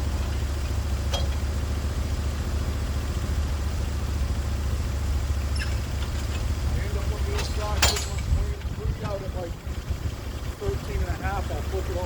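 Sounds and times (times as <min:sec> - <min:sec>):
sawmill engine running: 0:00.0 - 0:12.0.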